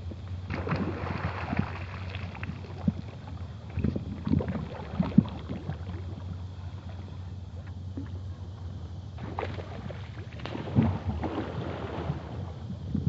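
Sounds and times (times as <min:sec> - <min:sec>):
water sloshing around kayak: 0:00.0 - 0:12.9.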